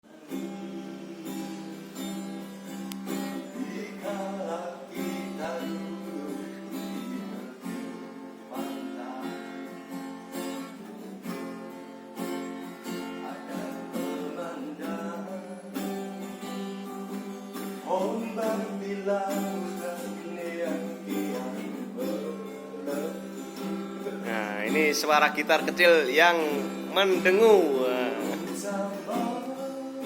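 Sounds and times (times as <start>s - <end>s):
ukulele strumming chords: 0.1s - 30.0s.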